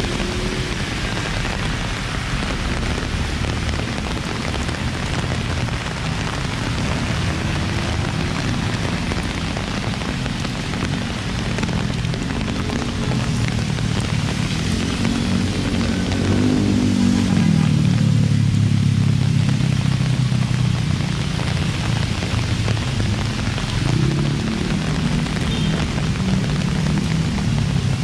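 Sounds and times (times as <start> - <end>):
heavy rain on pavement: 0.0 - 28.0
road traffic rumbling: 0.0 - 28.0
vehicle engine: 0.0 - 28.0.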